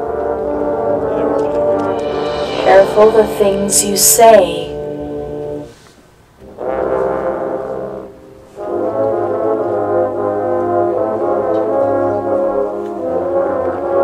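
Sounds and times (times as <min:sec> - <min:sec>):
brass section playing held chord: 0:00.0 - 0:14.0.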